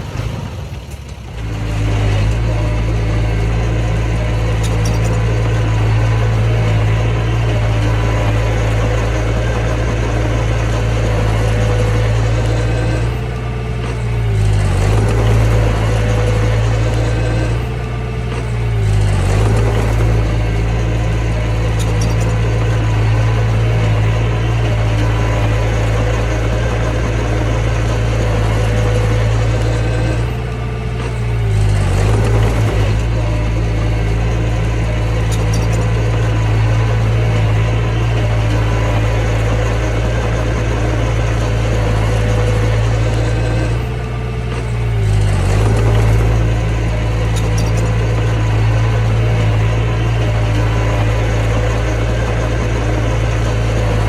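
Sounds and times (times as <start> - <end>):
diesel engine of bulldozer: 0.0 - 54.0.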